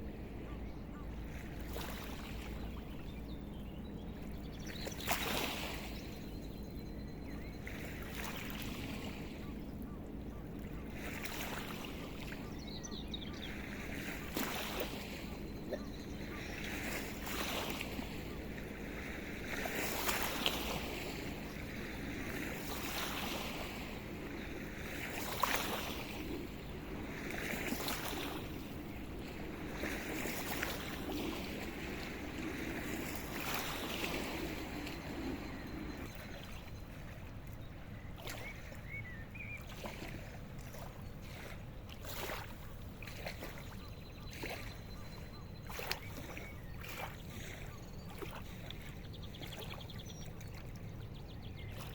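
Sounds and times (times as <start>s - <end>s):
boat engine drone: 0.0s - 51.9s.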